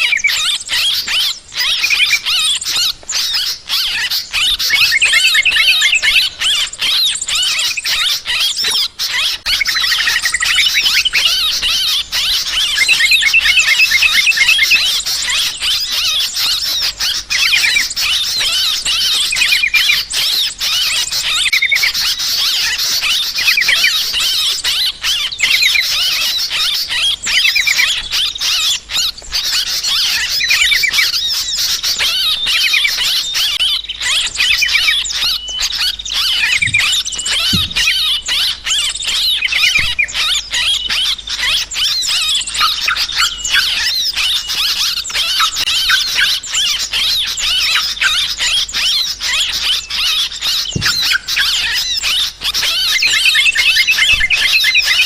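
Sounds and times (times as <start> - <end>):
bulbuls chattering: 0.0 - 55.0.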